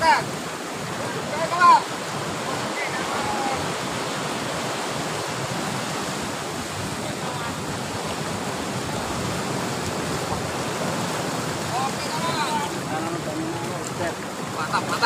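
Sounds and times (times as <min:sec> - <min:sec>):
surf breaking on shore: 0:00.0 - 0:15.0.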